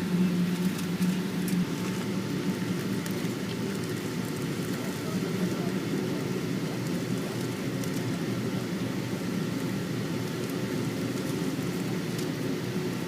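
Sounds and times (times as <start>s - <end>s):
airplane cabin rumble: 0.0s - 13.0s
faint steady whine: 0.0s - 13.0s.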